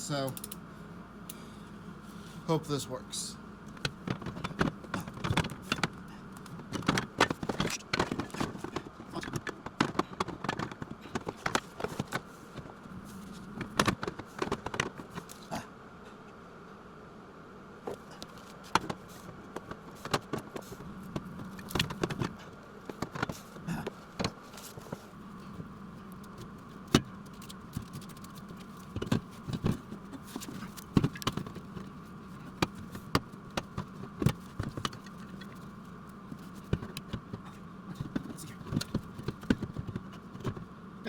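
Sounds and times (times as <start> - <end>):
steady machine hum: 0.0 - 41.0.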